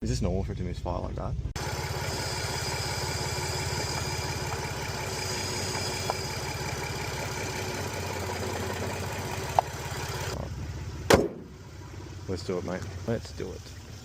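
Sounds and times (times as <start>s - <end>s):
car engine idling with misfire: 1.6s - 14.0s.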